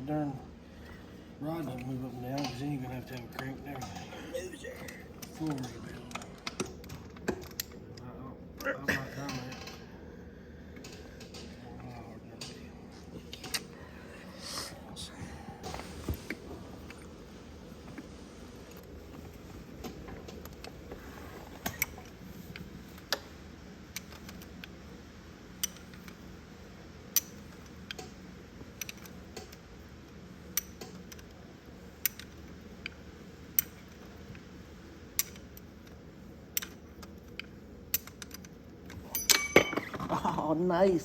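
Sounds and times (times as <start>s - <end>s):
faint low hum: 0.0s - 41.0s.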